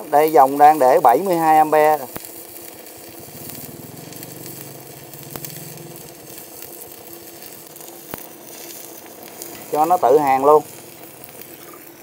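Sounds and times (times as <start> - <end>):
welding arc sizzling crackle: 0.0 - 12.0.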